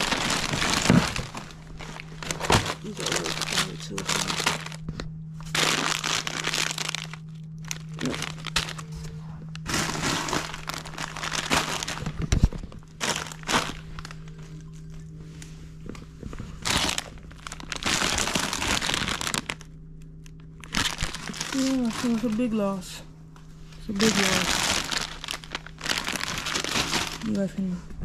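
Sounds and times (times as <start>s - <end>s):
plastic bags crinkling: 0.0s - 15.0s, 15.8s - 22.8s, 23.8s - 27.5s
faint low hum: 0.0s - 28.0s.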